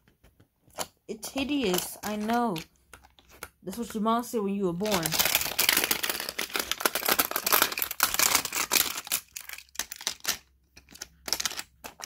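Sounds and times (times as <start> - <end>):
plastic toys clicking and rustling: 0.1 - 3.9, 4.8 - 12.0.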